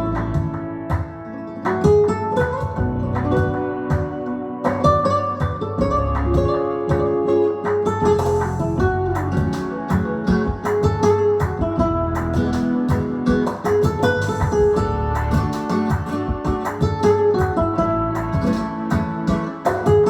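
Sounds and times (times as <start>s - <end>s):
guitar music with strong bass: 0.0s - 20.0s.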